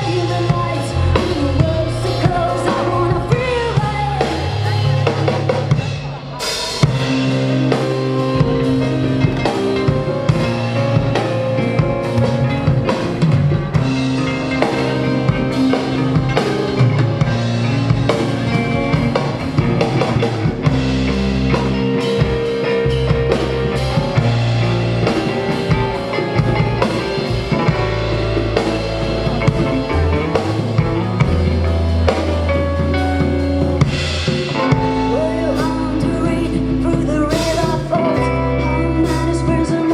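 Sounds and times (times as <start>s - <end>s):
drum kit: 0.0s - 39.9s
live rock band playing: 0.0s - 39.9s.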